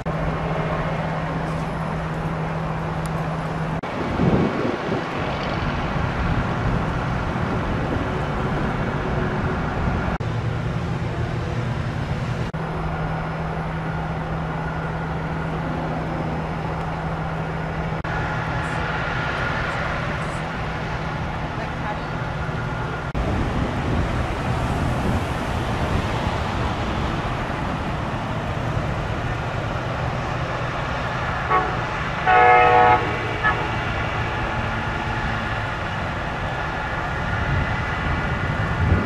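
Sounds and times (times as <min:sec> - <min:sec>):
heavy vehicle engine running: 0:00.0 - 0:39.0.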